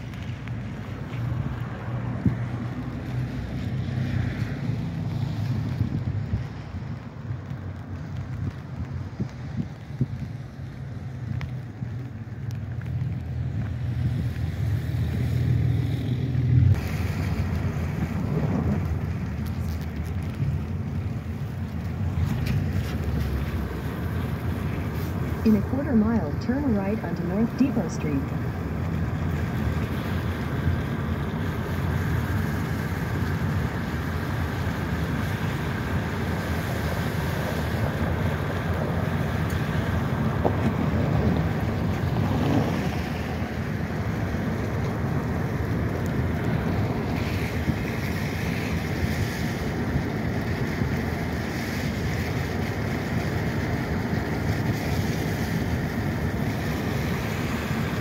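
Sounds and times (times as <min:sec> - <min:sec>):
car tyre rumble: 0:00.0 - 0:58.0.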